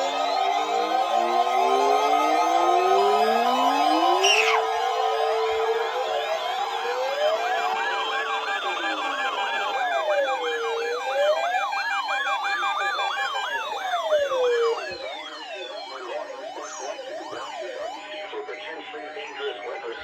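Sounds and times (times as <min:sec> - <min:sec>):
fast yelping siren: 0:00.0 - 0:18.0
wailing electronic sirens: 0:00.0 - 0:20.0.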